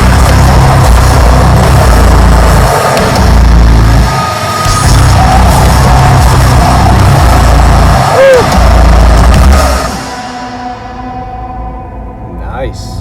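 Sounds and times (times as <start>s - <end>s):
heavy distorted metal music: 0.0s - 13.0s.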